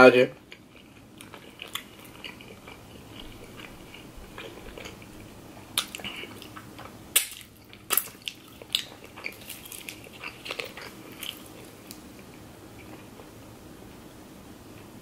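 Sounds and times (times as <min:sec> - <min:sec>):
person chewing: 0:00.4 - 0:13.3.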